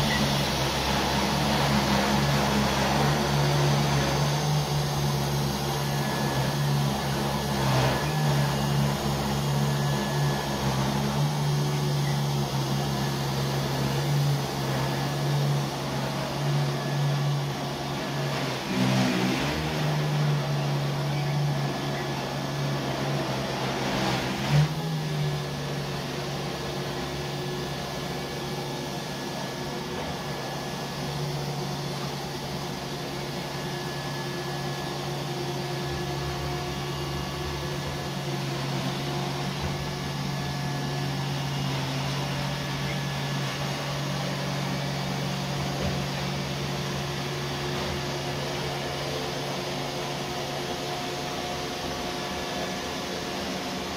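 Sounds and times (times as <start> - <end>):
robot vacuum motor hum: 0.0 - 53.9.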